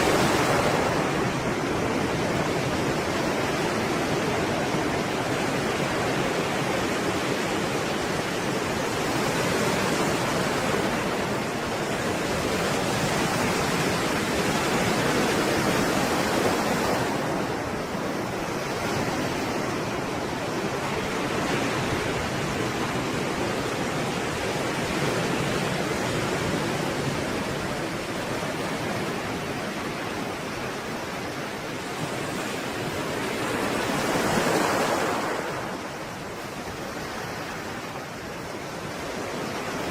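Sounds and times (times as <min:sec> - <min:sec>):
breaking sea waves: 0:00.0 - 0:39.9.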